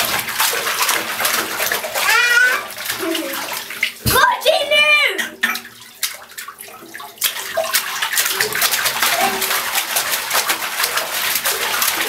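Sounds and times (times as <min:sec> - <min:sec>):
hands slapping bathwater: 0:00.0 - 0:12.0.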